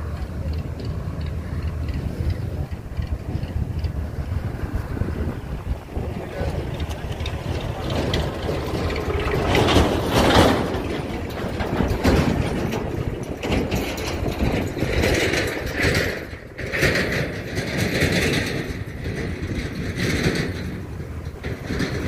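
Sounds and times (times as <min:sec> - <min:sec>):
combine harvester engine rumble: 0:00.0 - 0:22.0.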